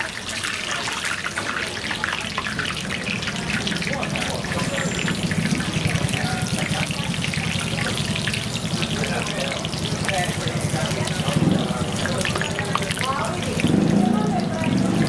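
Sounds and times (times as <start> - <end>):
hot oil sizzling: 0.0 - 15.0.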